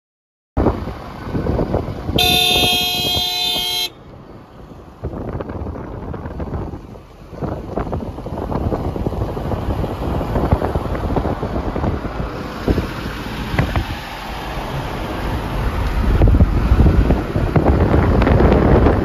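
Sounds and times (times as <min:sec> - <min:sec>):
vehicle rumble and road noise: 0:00.6 - 0:19.0
wind buffeting microphone: 0:00.6 - 0:19.0.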